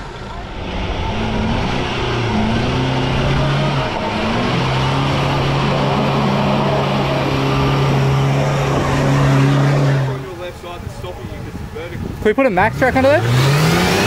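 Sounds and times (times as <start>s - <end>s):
engine revving under load: 0.0s - 10.7s, 12.4s - 14.0s
tyre and dirt noise: 0.0s - 14.0s.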